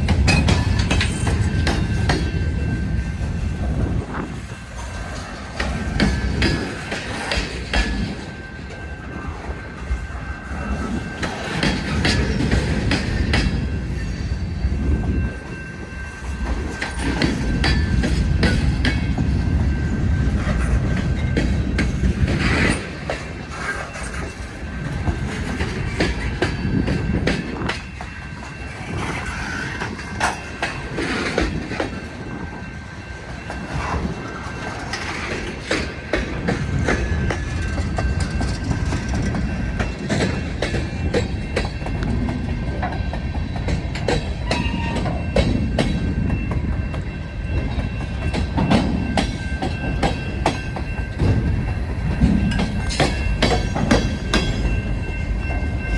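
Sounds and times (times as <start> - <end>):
train wheels clacking over rail joints: 0.0 - 2.8, 4.8 - 9.5, 10.6 - 14.2, 16.4 - 32.4, 33.3 - 55.9
low train rumble: 0.0 - 55.9.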